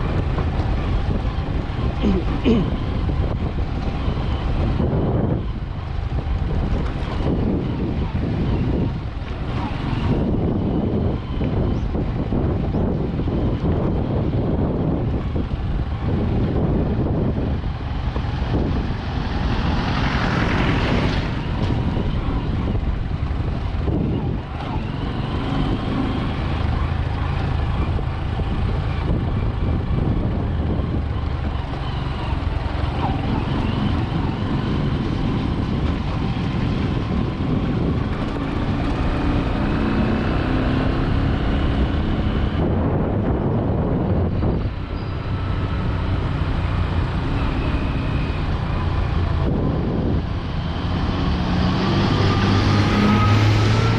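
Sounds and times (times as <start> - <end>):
road vehicle rumble: 0.0 - 53.9
wind on microphone: 0.0 - 53.9.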